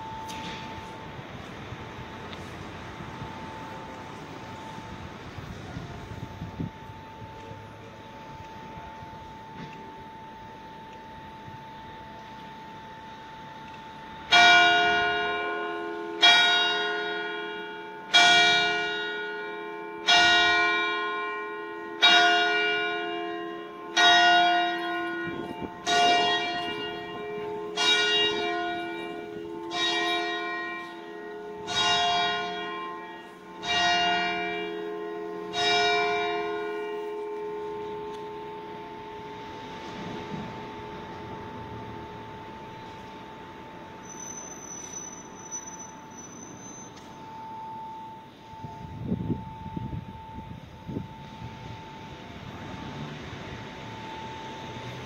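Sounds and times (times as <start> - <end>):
church bell tolling: 0.0 - 55.0.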